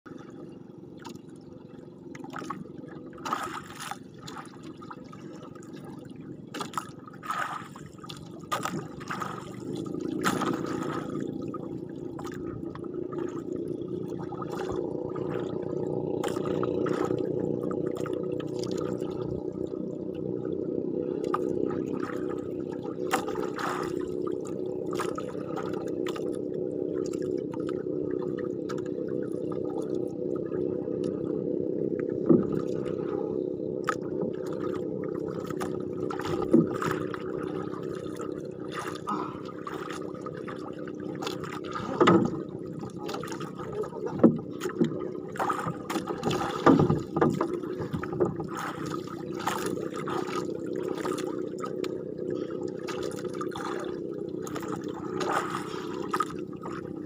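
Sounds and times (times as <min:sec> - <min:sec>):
steady low hum: 0:00.1 - 0:57.0
water splashing against a boat: 0:00.1 - 0:57.0.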